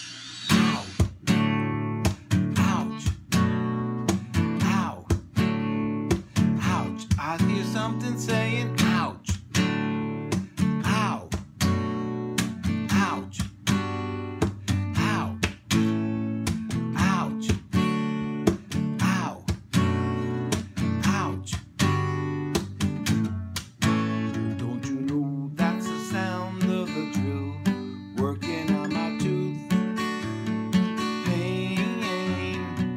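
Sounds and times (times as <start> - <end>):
acoustic guitar strumming: 0.0 - 32.9
man singing wordlessly: 0.6 - 1.1, 2.1 - 3.5, 4.3 - 9.6, 10.2 - 11.6, 12.7 - 13.8, 14.4 - 22.7, 24.3 - 32.9.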